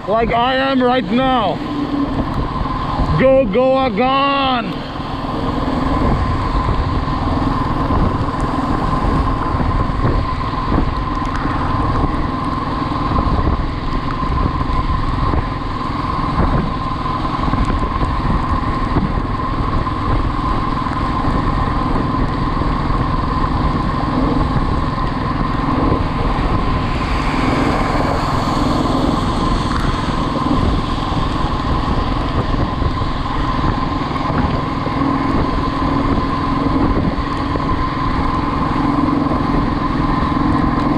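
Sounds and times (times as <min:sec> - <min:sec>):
motorcycle engine running: 0:00.0 - 0:40.9
steady whine: 0:00.0 - 0:40.9
wind rush on microphone: 0:00.0 - 0:40.9.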